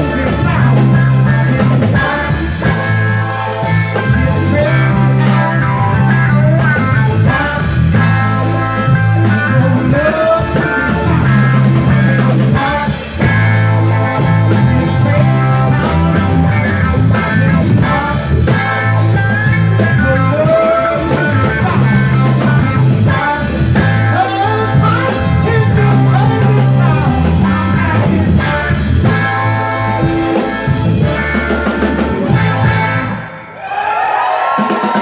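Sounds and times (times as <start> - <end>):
person singing: 0.0 - 18.8, 19.5 - 28.9
keyboard: 0.0 - 33.7
drums: 0.0 - 35.0
electric guitar: 0.0 - 35.0.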